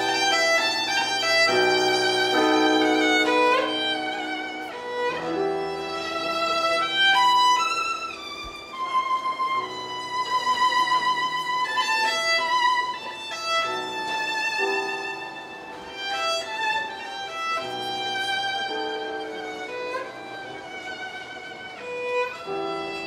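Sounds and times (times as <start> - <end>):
string ensemble accompaniment: 0.0 - 23.0
violin melody with vibrato: 0.0 - 23.0.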